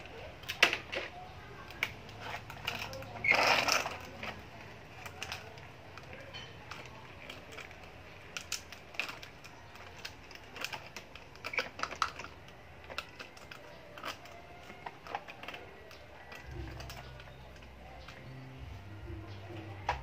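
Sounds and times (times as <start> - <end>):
plastic toy clicking and clattering: 0.0 - 20.0.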